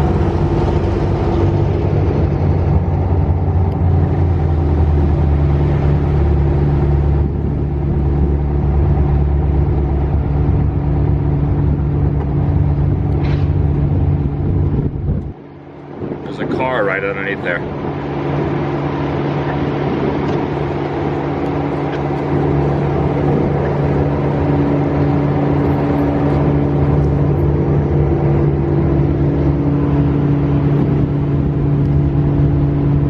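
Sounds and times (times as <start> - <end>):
buggy engine running: 0.0 - 33.0
wind rushing over microphone: 0.0 - 33.0.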